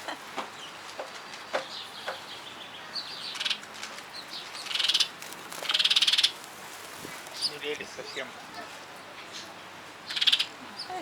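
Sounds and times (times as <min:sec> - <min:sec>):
sparrows chirping: 0:00.5 - 0:11.0.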